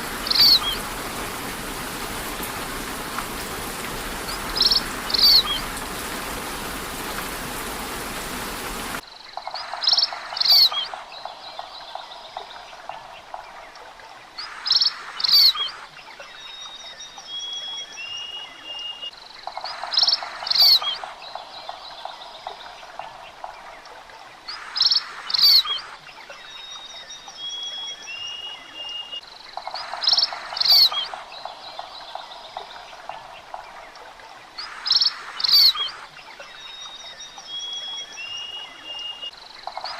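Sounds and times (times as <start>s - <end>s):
bird chirping: 0.0s - 39.9s
rain hiss: 0.0s - 39.9s.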